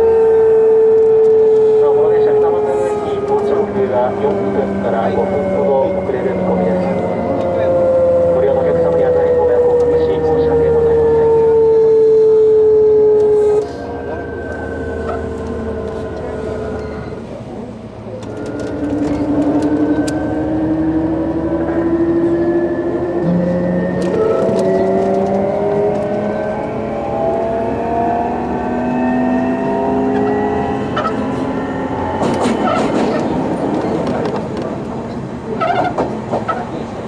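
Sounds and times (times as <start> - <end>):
train motors whining: 0.0 - 36.9.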